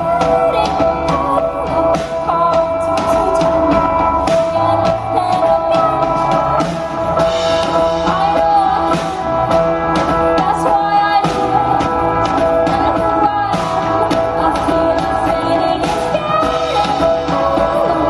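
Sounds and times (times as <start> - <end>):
live band music: 0.0 - 18.0
person singing: 0.0 - 18.0.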